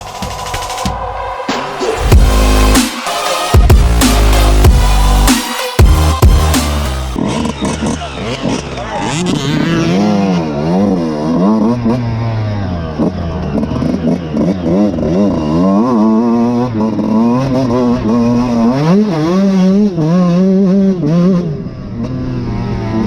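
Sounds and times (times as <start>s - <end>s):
motocross engine revving: 0.1s - 23.0s.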